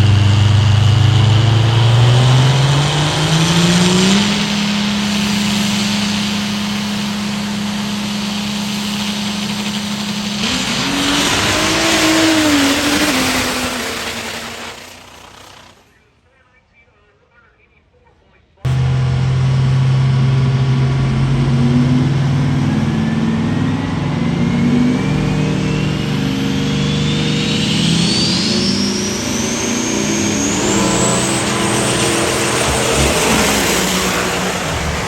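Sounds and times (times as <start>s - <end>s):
pickup truck engine revving: 0.0s - 15.8s, 18.7s - 35.0s.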